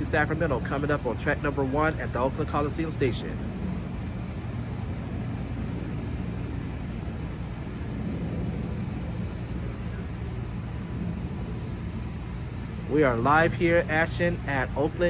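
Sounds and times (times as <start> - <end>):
distant vehicle rumble: 0.0 - 15.0
faint hum: 0.0 - 15.0.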